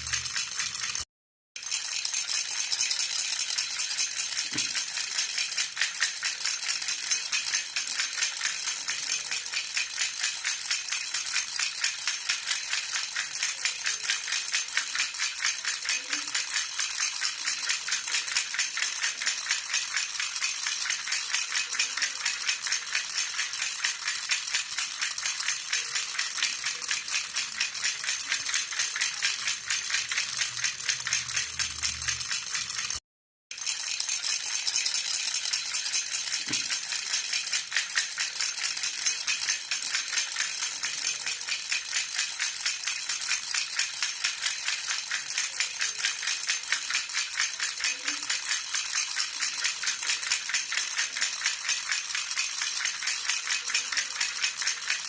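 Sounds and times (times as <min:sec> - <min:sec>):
baby rattle jingling: 0:00.0 - 0:33.0, 0:33.6 - 0:55.0.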